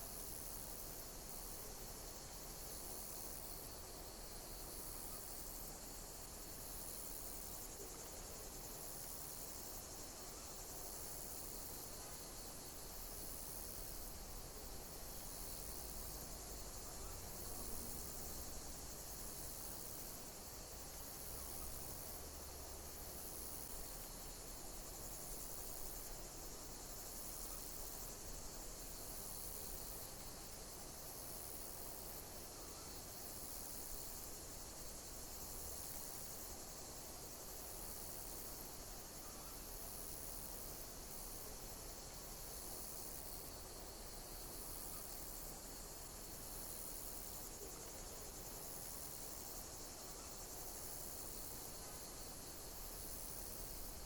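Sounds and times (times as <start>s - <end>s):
insects chirping: 0.0s - 54.0s
steady high hiss: 0.0s - 54.0s.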